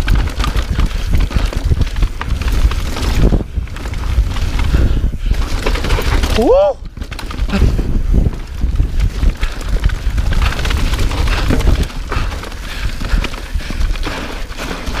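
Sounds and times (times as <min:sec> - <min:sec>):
bike clattering over bumps: 0:00.0 - 0:15.0
bike tyres on dirt and rock: 0:00.0 - 0:15.0
wind on microphone: 0:00.0 - 0:15.0.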